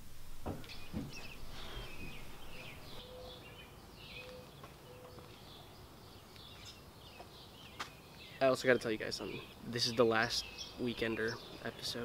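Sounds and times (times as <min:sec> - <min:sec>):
lower steady bird notes: 0:00.0 - 0:12.0
birds chirping: 0:00.5 - 0:12.0.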